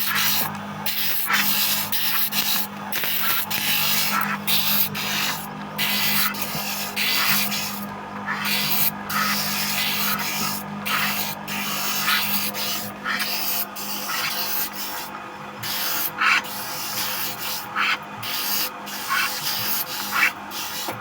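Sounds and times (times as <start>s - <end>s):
bamboo being scraped: 0.0s - 20.9s.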